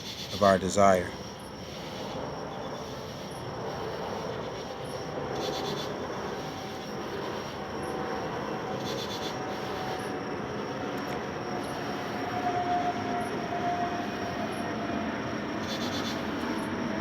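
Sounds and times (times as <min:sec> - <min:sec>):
thin high whine: 0:00.0 - 0:17.0.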